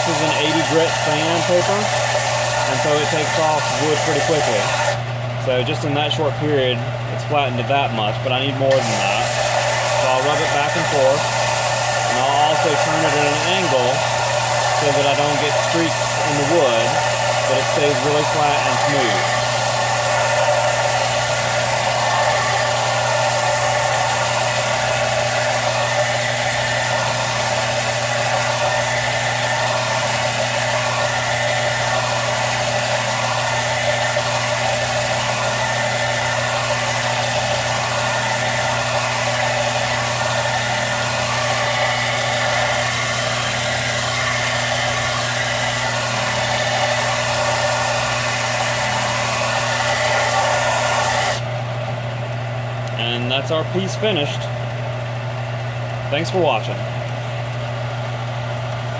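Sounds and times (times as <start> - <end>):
belt sander motor hum: 0.0 - 58.9.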